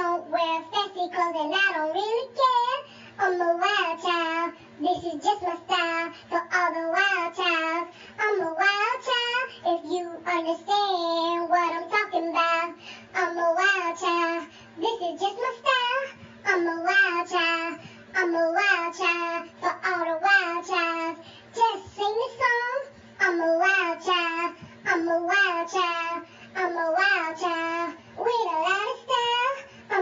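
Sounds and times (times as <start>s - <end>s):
child singing: 0.0s - 30.0s.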